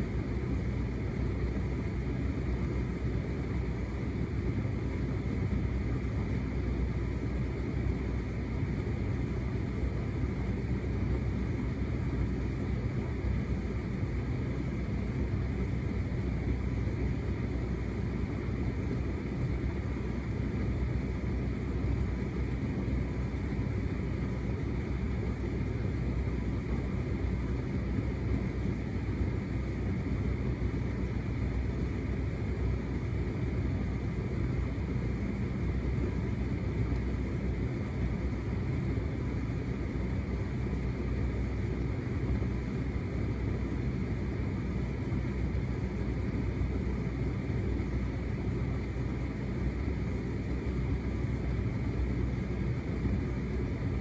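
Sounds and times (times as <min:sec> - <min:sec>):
tumble dryer rumbling: 0:00.0 - 0:54.0.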